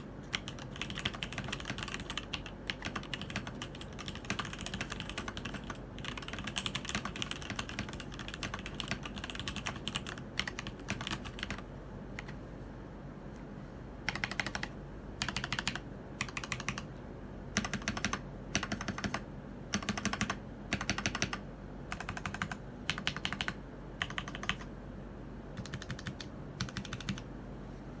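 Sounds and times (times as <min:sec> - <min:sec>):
mechanical keyboard typing: 0:00.0 - 0:11.6, 0:12.2 - 0:12.4, 0:14.1 - 0:16.9, 0:17.5 - 0:24.7, 0:25.6 - 0:27.2.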